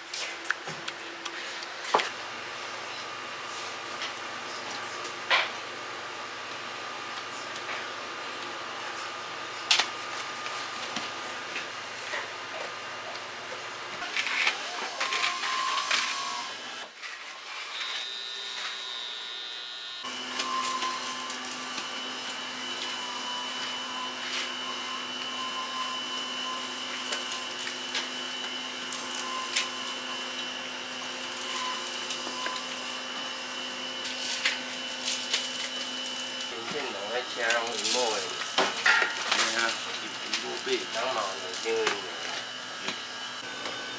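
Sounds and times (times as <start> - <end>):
machine hum with high whine: 0.0 - 43.9.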